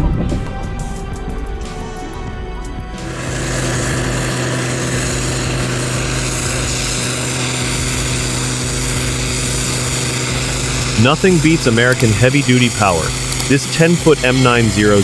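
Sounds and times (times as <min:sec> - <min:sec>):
heavy machine engine droning: 0:02.9 - 0:15.0.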